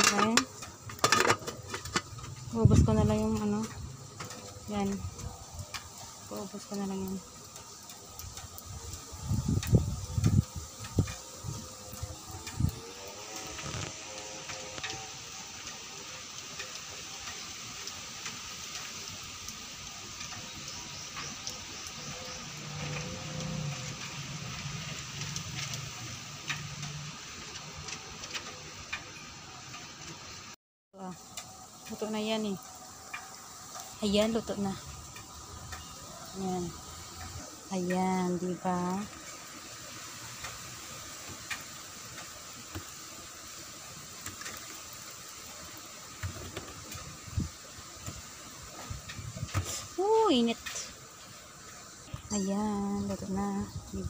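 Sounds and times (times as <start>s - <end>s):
faint steady hiss: 0.0s - 54.0s
wood fire crackling: 0.0s - 54.0s.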